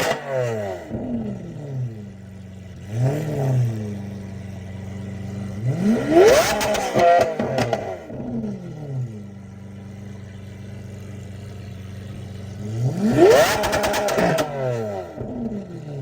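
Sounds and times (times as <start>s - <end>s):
exhaust crackles: 0.0s - 16.0s
sports car engine revving: 0.0s - 16.0s.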